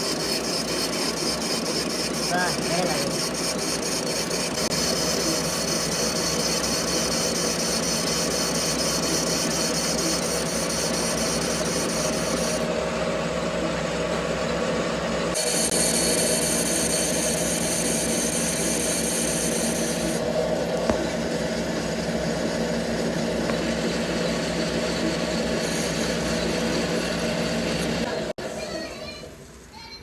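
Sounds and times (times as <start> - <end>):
grinding tool rasping: 0.0 - 12.6, 15.3 - 28.1
machinery hum: 0.0 - 29.6.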